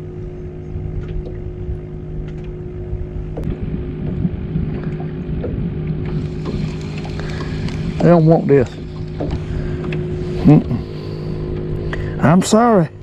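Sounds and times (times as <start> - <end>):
boat motor humming: 0.0 - 13.0
wind rumbling on microphone: 0.0 - 13.0.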